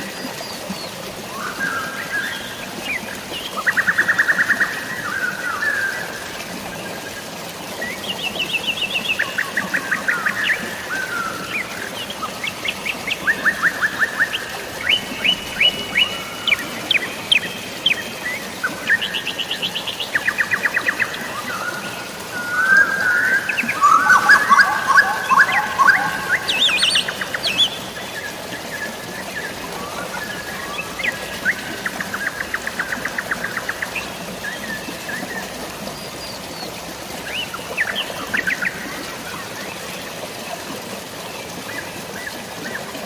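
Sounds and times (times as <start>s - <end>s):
birds singing: 0.0s - 40.2s
drizzling rain: 0.0s - 43.0s
flowing water: 0.0s - 43.0s.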